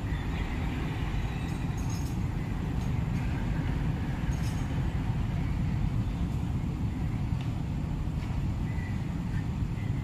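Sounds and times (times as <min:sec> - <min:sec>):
steel wheels rumbling on rail: 0:00.0 - 0:10.0.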